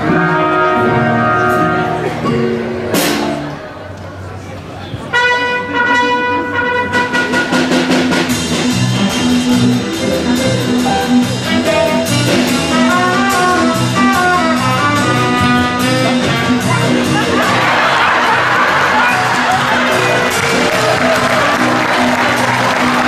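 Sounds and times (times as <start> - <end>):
lively music with drum beat: 0.0 - 3.6, 5.1 - 23.0.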